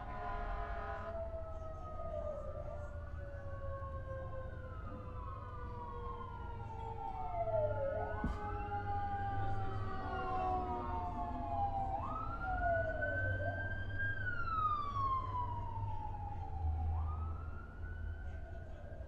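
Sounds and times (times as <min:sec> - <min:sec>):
emergency vehicle siren wailing: 0:00.0 - 0:19.0.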